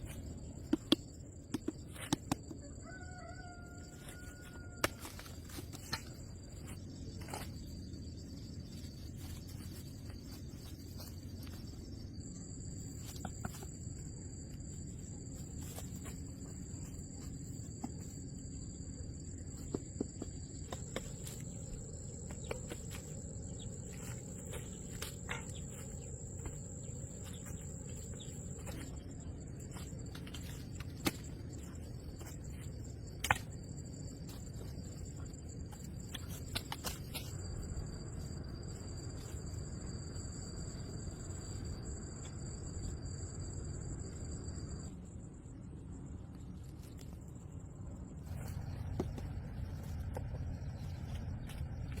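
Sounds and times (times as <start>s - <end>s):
insects droning: 0.0s - 52.0s
low outdoor rumble: 0.0s - 52.0s.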